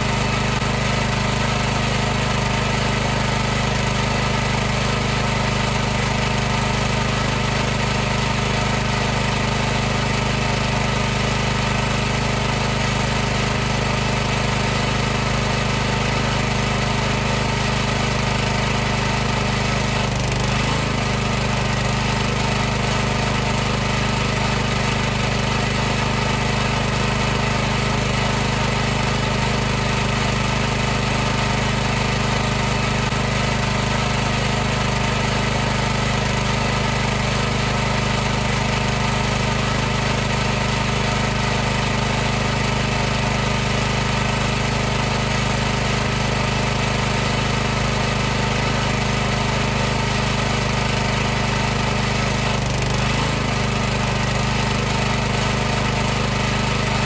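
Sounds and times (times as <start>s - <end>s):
pressure washer motor humming: 0.0s - 57.0s.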